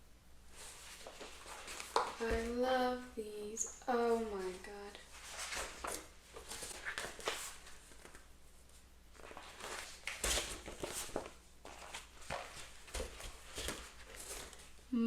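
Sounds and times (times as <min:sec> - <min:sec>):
book pages turning and rustling: 0:00.6 - 0:02.6, 0:04.2 - 0:14.8.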